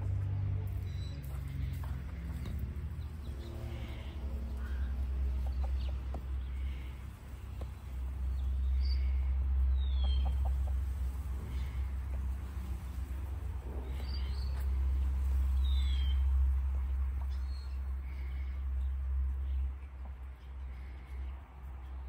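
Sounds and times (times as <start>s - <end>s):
steady low rumble: 0.0s - 22.0s
hens clucking: 1.2s - 21.3s.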